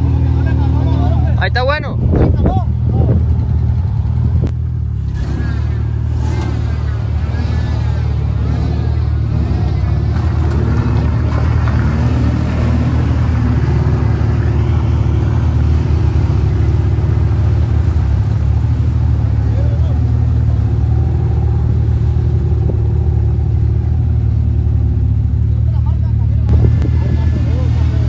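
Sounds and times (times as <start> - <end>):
vehicle engine droning: 0.0 - 28.0.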